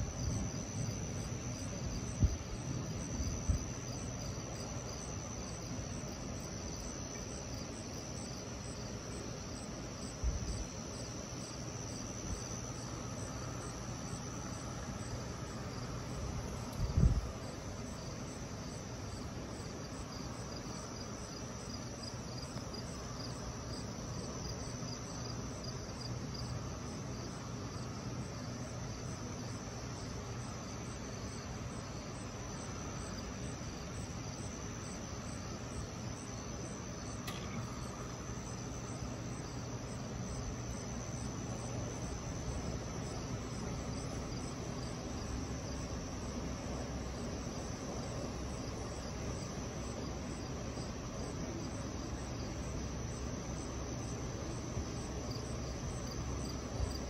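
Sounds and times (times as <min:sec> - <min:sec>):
crickets chirping: 0:00.0 - 0:57.0
steady low hum: 0:00.0 - 0:57.0.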